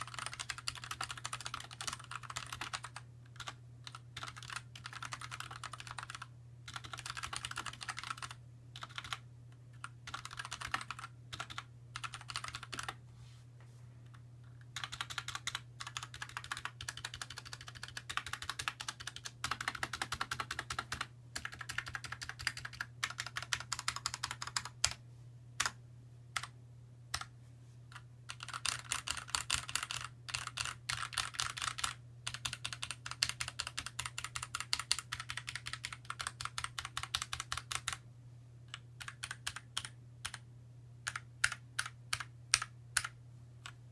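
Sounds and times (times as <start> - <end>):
mechanical keyboard typing: 0.0 - 9.2, 9.8 - 13.0, 14.7 - 25.0, 27.9 - 38.0, 38.7 - 40.4, 41.0 - 43.8.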